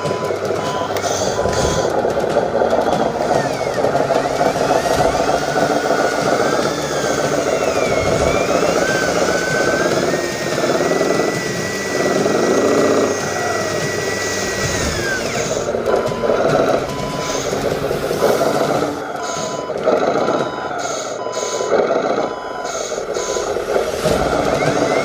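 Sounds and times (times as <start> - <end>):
engine-like rumble: 0.0 - 25.0
model truck motor whining: 0.0 - 25.0
reversing beeper: 0.0 - 25.0.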